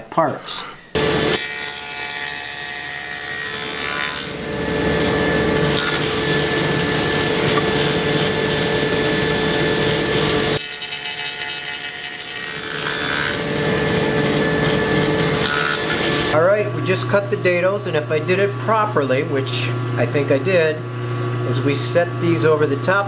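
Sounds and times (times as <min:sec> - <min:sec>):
saw cutting wood: 0:00.0 - 0:23.0
table saw motor humming: 0:00.6 - 0:23.0.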